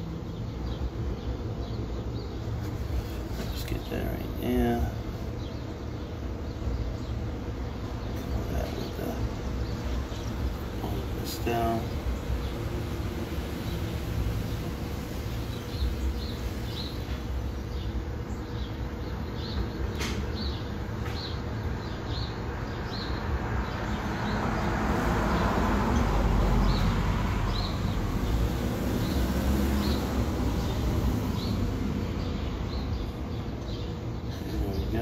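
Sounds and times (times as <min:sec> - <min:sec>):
bird chirping: 0:00.0 - 0:35.0
low traffic rumble: 0:00.0 - 0:35.0.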